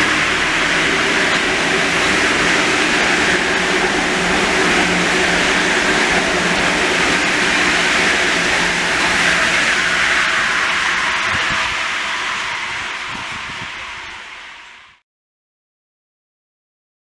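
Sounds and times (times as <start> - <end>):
train rushing past platform: 0.0 - 15.0.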